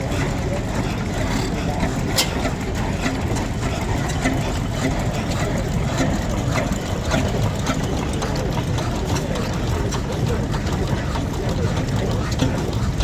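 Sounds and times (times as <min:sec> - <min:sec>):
engine idling: 0:00.0 - 0:13.0
sharp clicks and ticks: 0:00.0 - 0:13.0.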